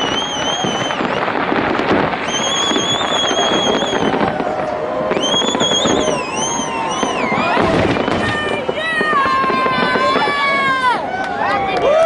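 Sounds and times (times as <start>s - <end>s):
high wavering firework whistles: 0.0s - 10.5s
fireworks crackling and popping: 0.0s - 12.0s.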